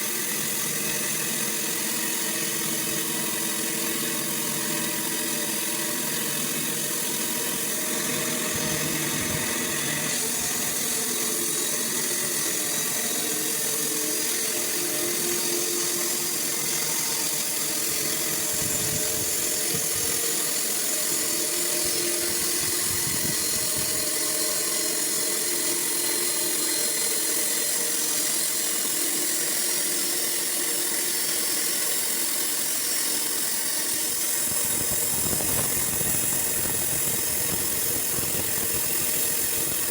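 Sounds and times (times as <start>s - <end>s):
sawmill machine whining: 0.0s - 39.9s.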